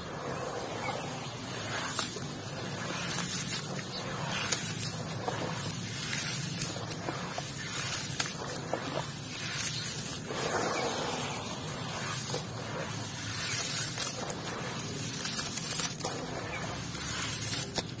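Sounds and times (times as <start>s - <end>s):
hands crumbling wet cement: 0.9s - 18.0s.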